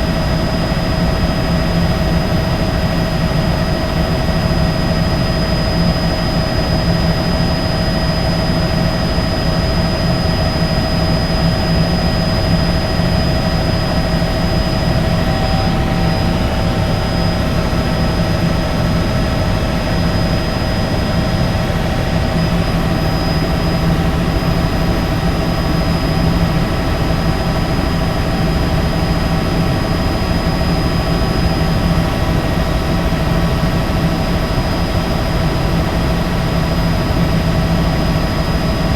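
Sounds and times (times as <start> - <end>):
helicopter engine and rotor roar: 0.0 - 38.9
high turbine whine: 0.0 - 38.9.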